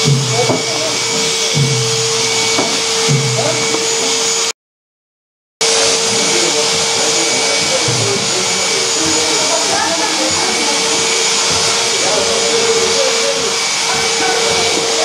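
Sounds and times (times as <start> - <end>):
constant motor hum: 0.0 - 4.5, 5.6 - 15.0.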